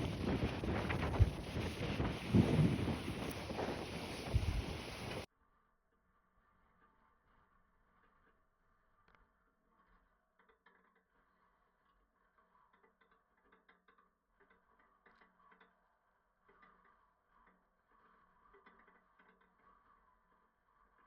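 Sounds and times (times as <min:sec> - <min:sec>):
faint small clicks and crackles: 0:00.0 - 0:05.3, 0:07.9 - 0:21.0.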